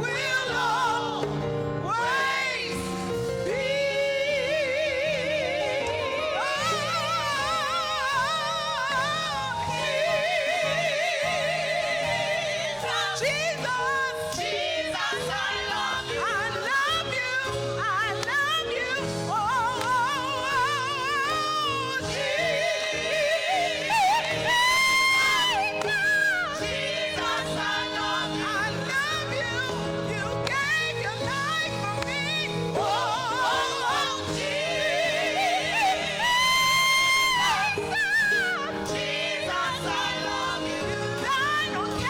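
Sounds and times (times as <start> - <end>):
person singing gospel solo: 0.0 - 42.0.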